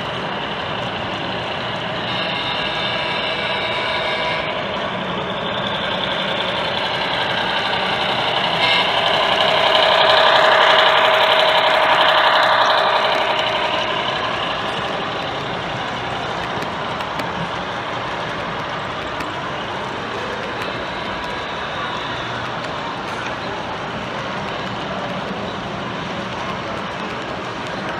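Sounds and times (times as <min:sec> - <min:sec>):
model train diesel engine: 0:00.0 - 0:27.9.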